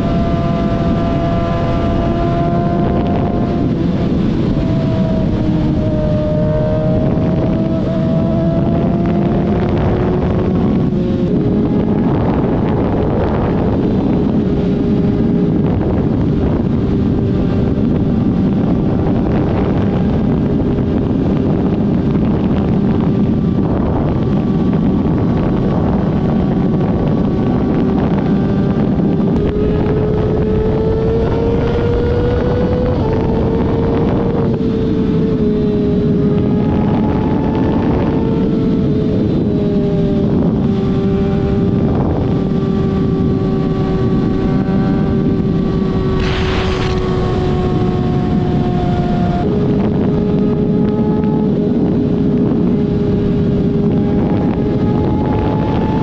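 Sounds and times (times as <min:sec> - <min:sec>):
car engines running: 0:02.6 - 0:56.0.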